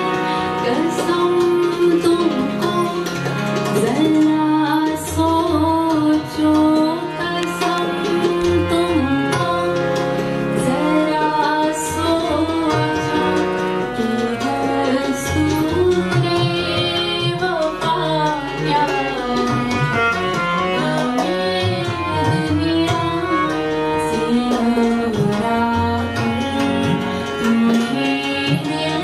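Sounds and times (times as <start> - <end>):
harmonium: 0.0 - 29.0
tabla drums: 0.0 - 29.0
woman singing: 0.0 - 29.0.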